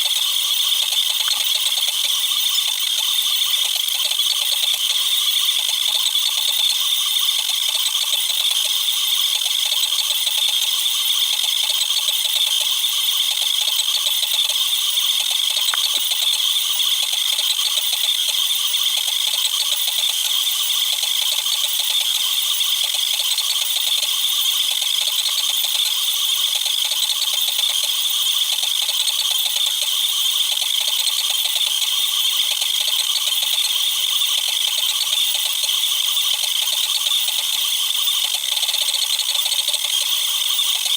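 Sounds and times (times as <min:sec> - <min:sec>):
printer high-pitched rattle: 0:00.0 - 0:40.9.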